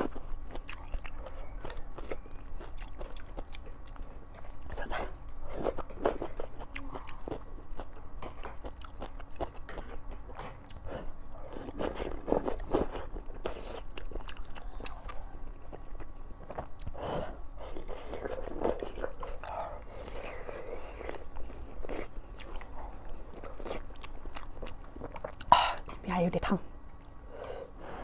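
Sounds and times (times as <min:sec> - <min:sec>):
chewing with wet mouth clicks: 0:00.0 - 0:17.0, 0:17.6 - 0:25.9, 0:26.9 - 0:27.2.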